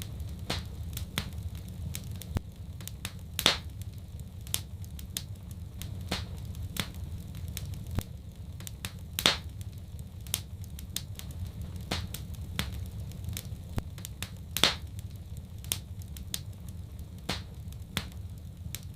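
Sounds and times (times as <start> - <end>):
fire pops and snaps: 0.0 - 18.9
wood fire crackling: 0.0 - 18.9.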